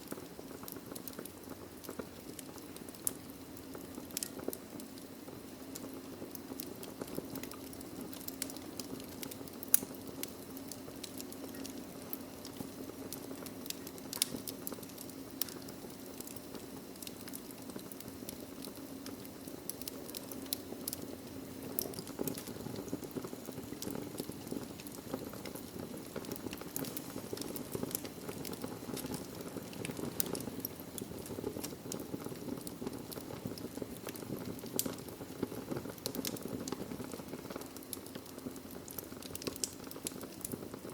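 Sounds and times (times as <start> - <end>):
log fire crackling and popping: 0.0 - 40.9.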